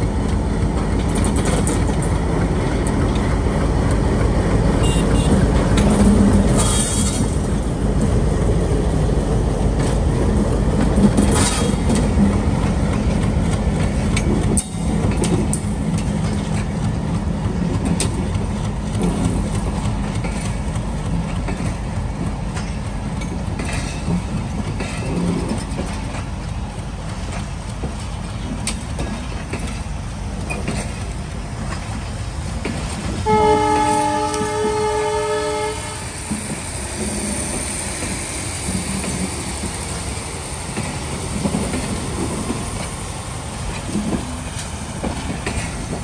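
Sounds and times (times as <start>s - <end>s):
clickety-clack of rail joints: 0.0s - 46.0s
locomotive hum: 0.0s - 46.0s
train wheels rumbling on rails: 0.0s - 46.0s.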